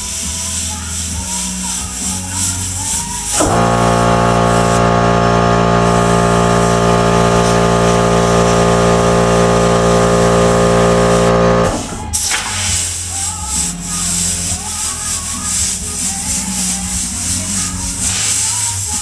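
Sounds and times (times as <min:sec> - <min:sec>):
air compressor humming: 0:00.0 - 0:19.0.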